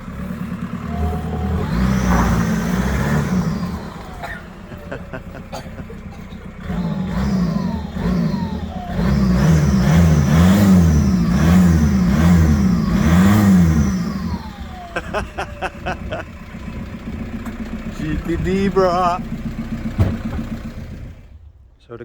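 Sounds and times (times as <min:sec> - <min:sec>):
diesel engine revving: 0:00.0 - 0:21.8.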